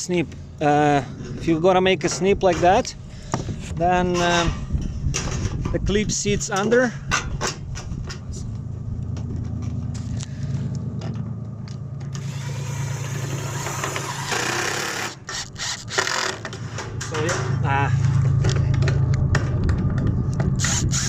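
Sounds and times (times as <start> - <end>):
low engine hum: 0.0 - 14.5, 16.3 - 21.0.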